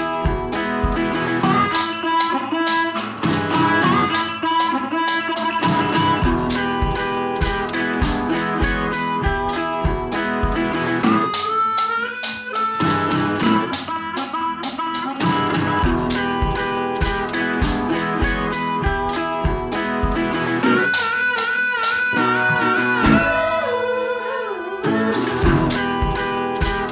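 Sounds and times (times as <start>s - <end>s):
guitar lead over a beat: 0.0s - 26.9s.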